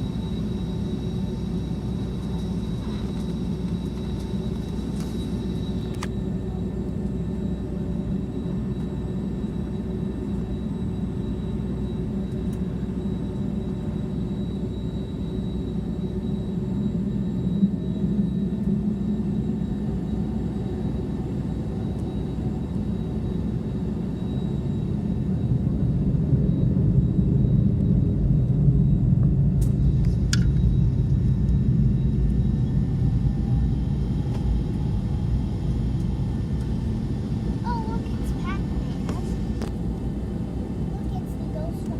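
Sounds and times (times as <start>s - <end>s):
faint steady whines: 0.0s - 41.9s
jet engine cabin rumble: 0.0s - 41.9s.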